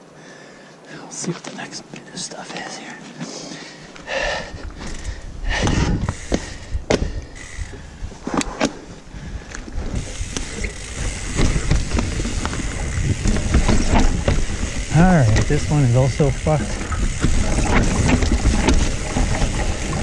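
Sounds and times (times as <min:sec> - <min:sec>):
bike rolling on dirt: 0:02.8 - 0:20.0.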